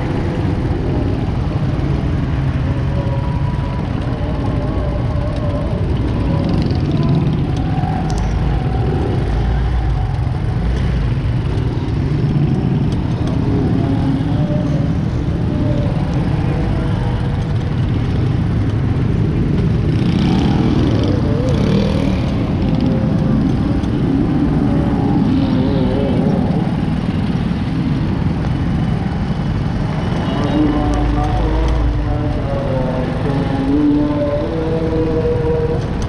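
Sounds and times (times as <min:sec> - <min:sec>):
busy road traffic rumble: 0:00.0 - 0:36.0.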